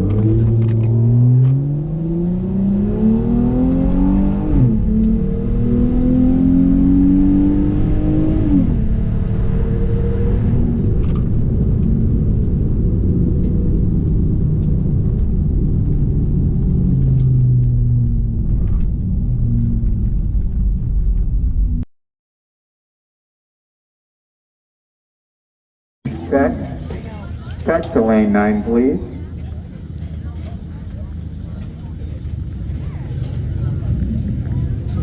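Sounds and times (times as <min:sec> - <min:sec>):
car engine accelerating: 0:00.0 - 0:21.9, 0:26.1 - 0:35.0
road rumble: 0:00.0 - 0:21.9, 0:26.1 - 0:35.0.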